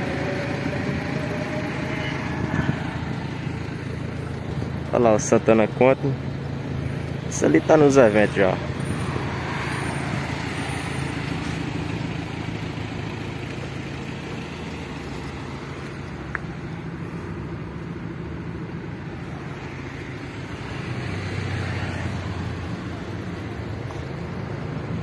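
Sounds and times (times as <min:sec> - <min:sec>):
outdoor noise: 0:00.0 - 0:25.0
vehicle engine droning: 0:00.0 - 0:25.0.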